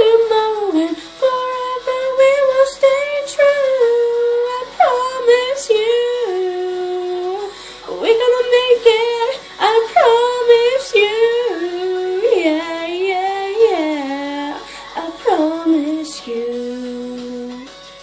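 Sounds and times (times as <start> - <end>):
young woman singing: 0.0 - 17.7.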